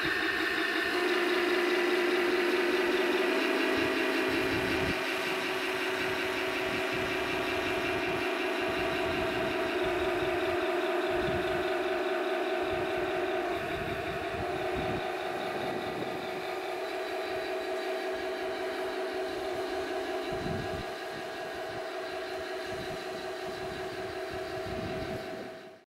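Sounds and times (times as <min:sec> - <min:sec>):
toy tank electronic engine sound: 0:00.0 - 0:25.8.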